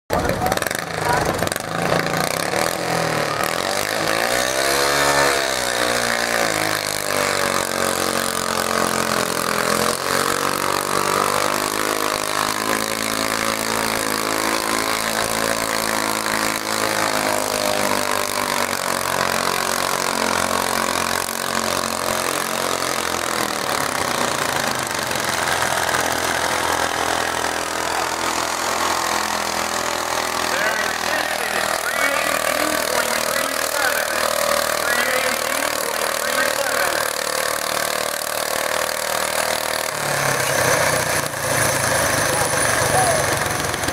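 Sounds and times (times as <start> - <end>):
tractor engine revving under load: 0.1 - 43.9.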